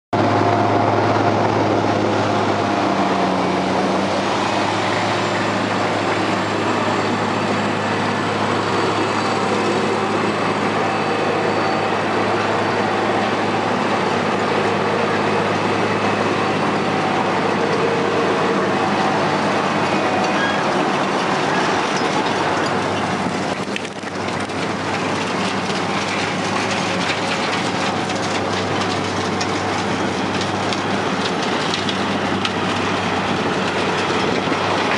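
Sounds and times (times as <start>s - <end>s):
cutting drum grinding asphalt: 0.1s - 34.9s
loud diesel engine hum: 0.1s - 34.9s
millings pouring into trailer: 3.8s - 34.9s.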